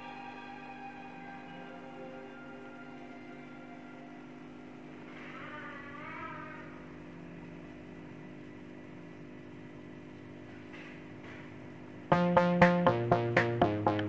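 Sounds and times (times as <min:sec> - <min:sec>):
faint mechanical hum: 0:00.0 - 0:14.0.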